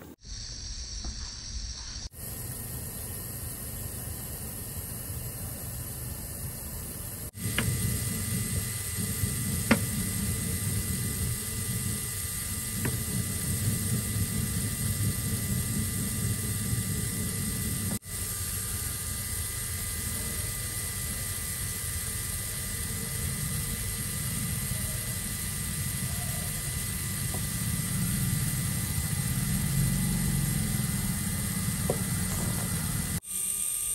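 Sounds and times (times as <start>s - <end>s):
small electric motor whirring: 0.0s - 33.9s.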